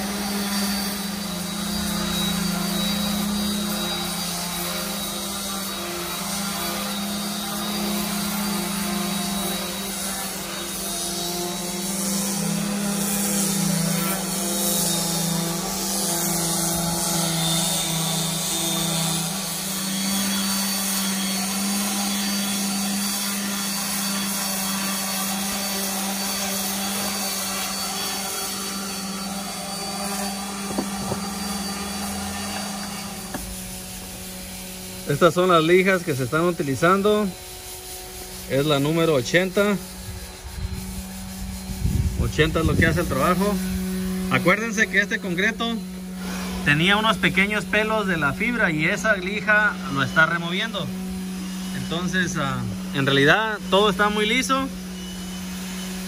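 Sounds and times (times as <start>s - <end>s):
orbital sander sanding concrete: 0.0s - 56.0s.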